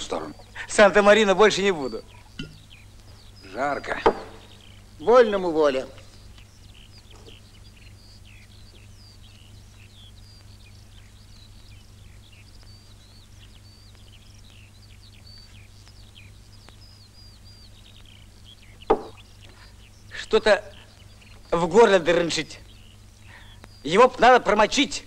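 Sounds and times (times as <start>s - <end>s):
small birds chirping: 0.0s - 25.0s
steady low hum: 0.0s - 25.0s.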